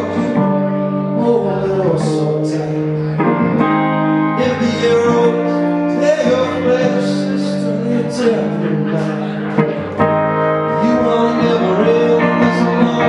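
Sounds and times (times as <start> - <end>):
man singing: 0.0 - 13.0
strummed electric guitar: 0.0 - 13.0.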